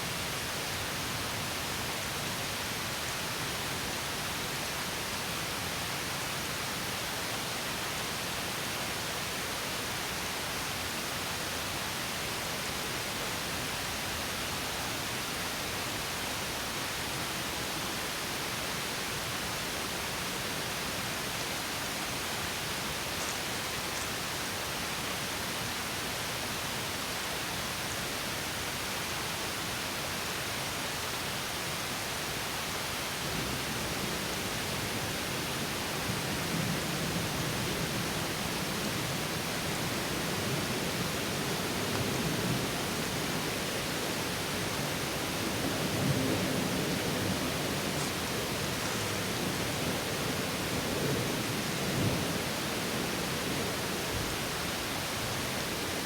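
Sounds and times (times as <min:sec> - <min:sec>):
water rushing over small waterfall: 0:00.0 - 0:56.0.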